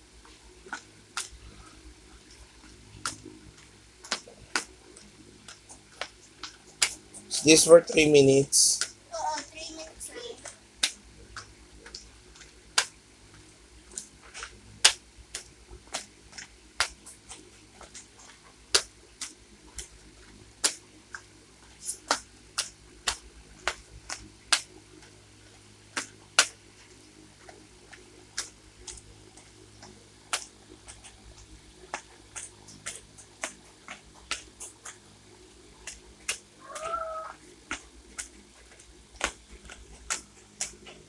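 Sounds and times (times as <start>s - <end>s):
sandals slapping on concrete steps: 2.2s - 41.0s.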